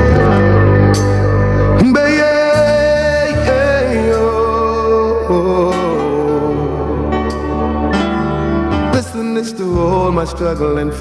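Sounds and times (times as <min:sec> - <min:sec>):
reggae music over a sound system: 0:00.0 - 0:11.0.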